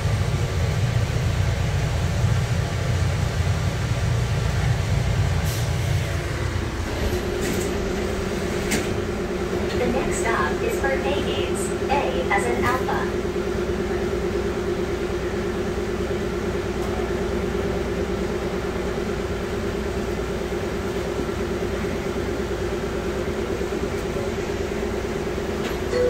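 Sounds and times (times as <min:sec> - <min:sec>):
people-mover train running: 0:00.0 - 0:26.0.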